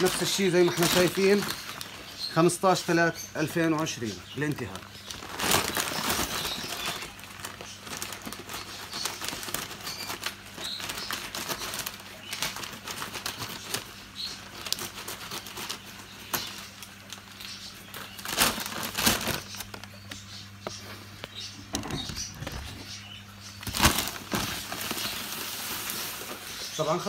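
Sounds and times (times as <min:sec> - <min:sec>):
plastic sack rustling and crinkling: 0:00.0 - 0:27.0.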